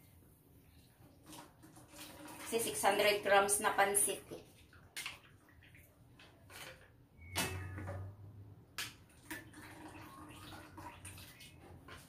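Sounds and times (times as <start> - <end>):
faint dripping and splashing: 0.0 - 7.0, 8.8 - 12.0.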